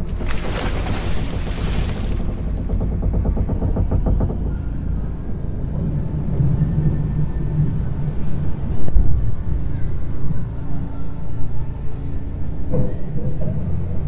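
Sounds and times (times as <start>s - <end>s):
deep low rumble: 0.0s - 14.0s
low hum: 0.0s - 14.0s.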